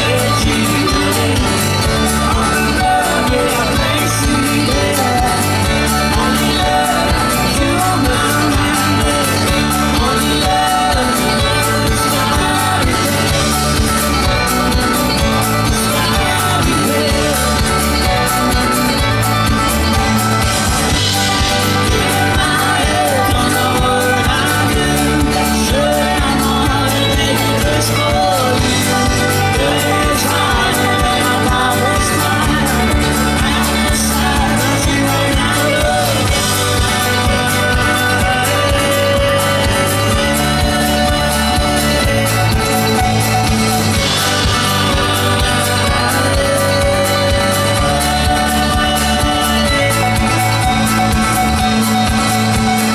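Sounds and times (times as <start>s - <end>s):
live folk band playing: 0.0s - 52.9s
person singing: 0.0s - 52.9s
strummed acoustic guitar: 0.0s - 52.9s.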